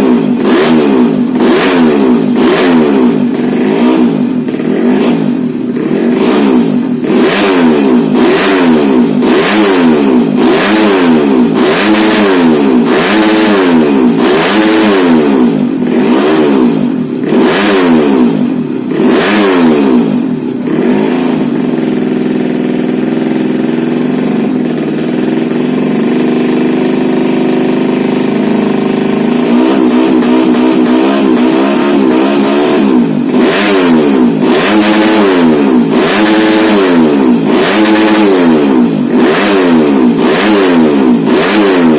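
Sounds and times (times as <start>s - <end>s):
motorcycle engine revving and idling: 0.0s - 41.9s.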